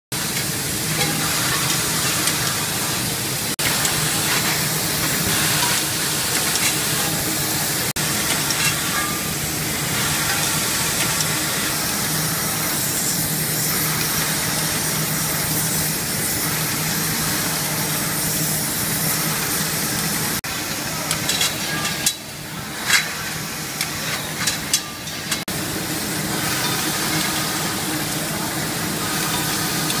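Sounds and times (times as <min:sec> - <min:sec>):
gas burner flames hissing: 0:00.1 - 0:30.0.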